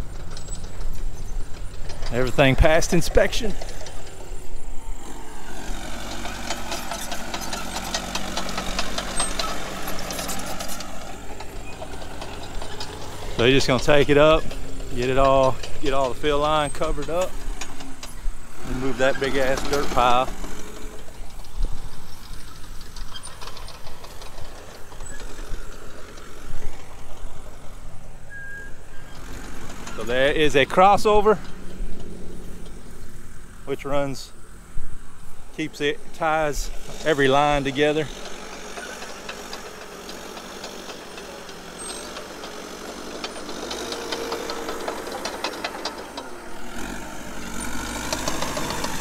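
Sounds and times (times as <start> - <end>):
heavy machine engine running: 0.0 - 49.0.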